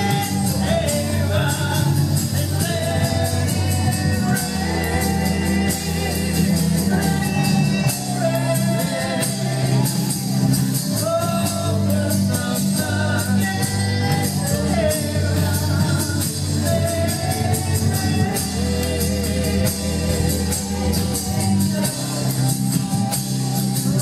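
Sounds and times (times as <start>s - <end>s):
voices singing: 0.0s - 24.0s
worship band playing: 0.0s - 24.0s.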